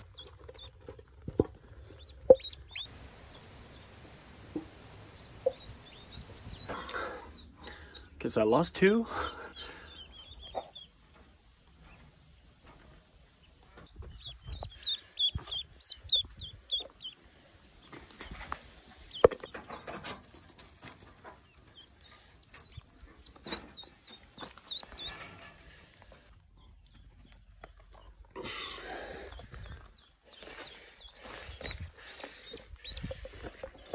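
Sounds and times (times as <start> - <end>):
ducklings peeping: 0.0 - 12.1, 13.3 - 20.1, 21.1 - 25.8, 29.2 - 33.9.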